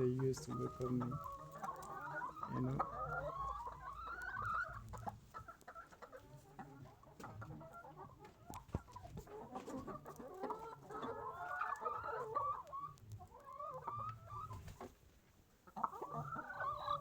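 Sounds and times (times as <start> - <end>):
hens clucking and calling: 0.0 - 17.0.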